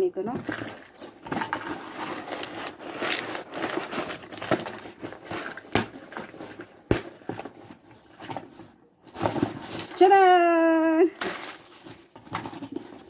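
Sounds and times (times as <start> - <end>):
cardboard rustling and scraping: 0.3 - 10.2, 11.1 - 13.0.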